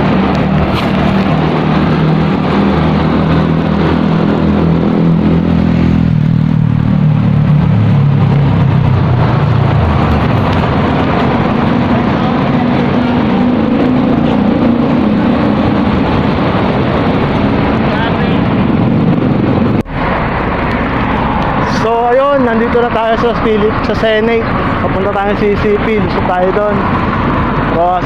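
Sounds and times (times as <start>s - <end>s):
air noise: 0.0s - 28.0s
nearby vehicle engine hum: 0.0s - 28.0s
traffic rush: 0.0s - 28.0s.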